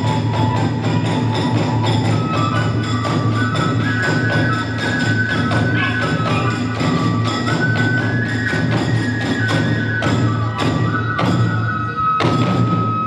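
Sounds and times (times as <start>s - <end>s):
drum beat: 0.0s - 11.5s
bamboo flute melody: 0.0s - 13.0s.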